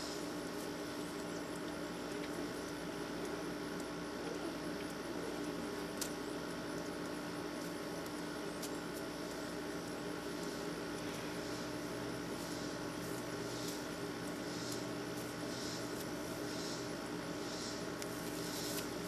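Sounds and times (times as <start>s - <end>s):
electrical hum with hiss: 0.0s - 19.0s.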